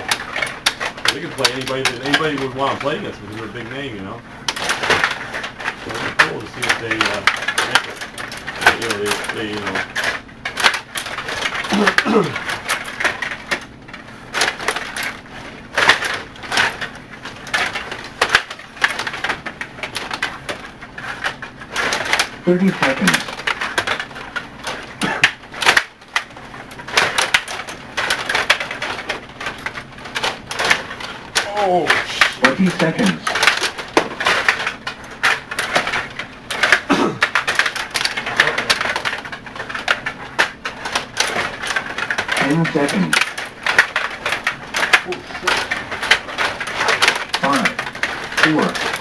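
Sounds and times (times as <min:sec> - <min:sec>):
table hockey clacks and rattles: 0:00.0 - 0:49.0.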